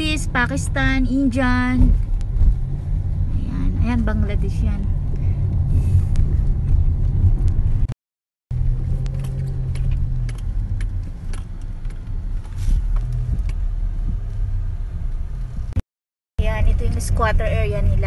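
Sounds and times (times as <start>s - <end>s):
car engine and tyres rumbling: 0.0s - 15.8s, 16.4s - 18.0s.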